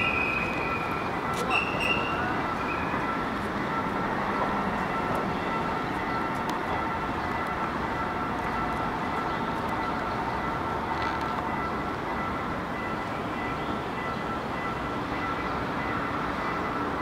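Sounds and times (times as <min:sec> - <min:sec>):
level crossing warning tone: 0:00.0 - 0:17.0
train wheels rolling on track: 0:00.0 - 0:17.0.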